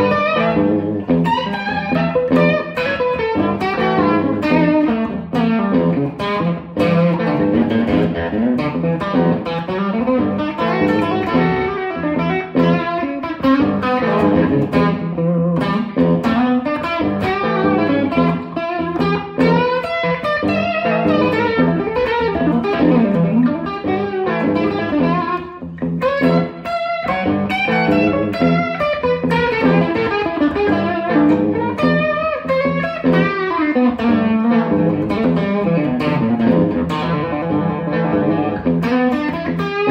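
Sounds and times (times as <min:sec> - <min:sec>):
electric guitar solo: 0:00.0 - 0:39.9.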